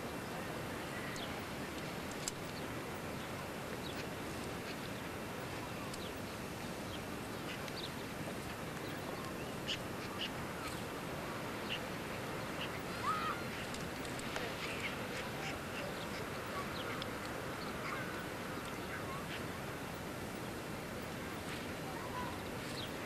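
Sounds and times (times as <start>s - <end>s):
birds chirping: 0.0s - 23.0s
steady outdoor hiss: 0.0s - 23.0s.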